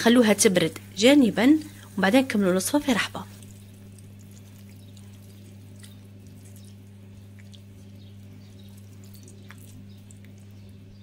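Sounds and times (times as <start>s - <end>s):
steady low hum: 0.0s - 11.0s
spatula stirring in a frying pan: 1.7s - 10.6s.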